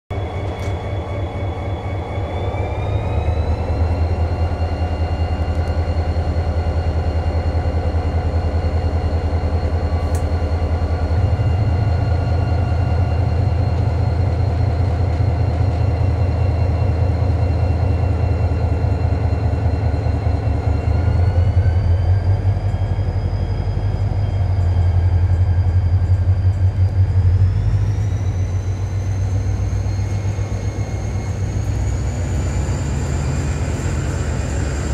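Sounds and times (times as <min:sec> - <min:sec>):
locomotive engine rumbling: 0:00.1 - 0:34.9
locomotive engine whine: 0:00.1 - 0:34.9.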